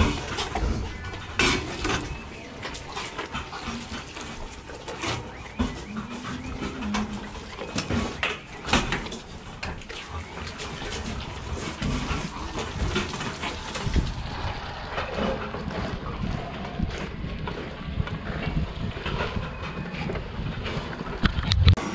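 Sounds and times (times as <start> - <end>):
calves drinking from buckets: 0.0 - 21.9.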